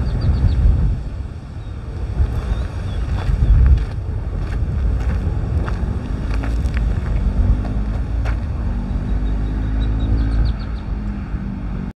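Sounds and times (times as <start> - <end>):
steady low hum: 0.0 - 11.9
wind buffeting microphone: 0.0 - 11.9.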